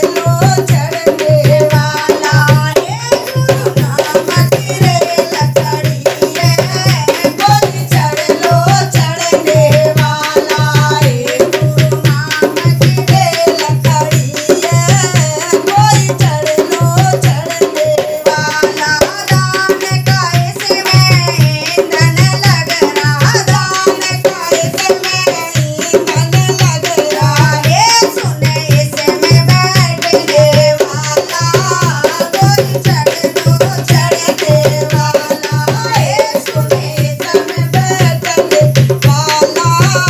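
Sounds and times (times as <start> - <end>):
women singing: 0.0 - 40.0.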